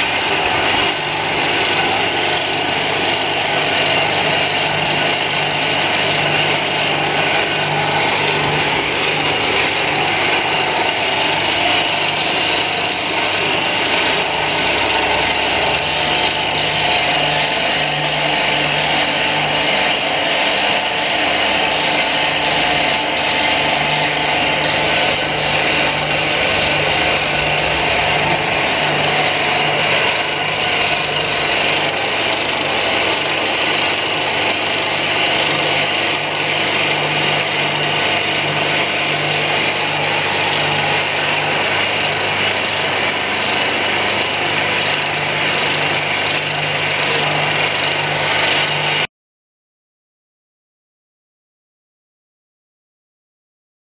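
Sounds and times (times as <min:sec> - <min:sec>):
electric motor hum: 0:00.0 - 0:49.1
metal machining noise: 0:00.0 - 0:49.1.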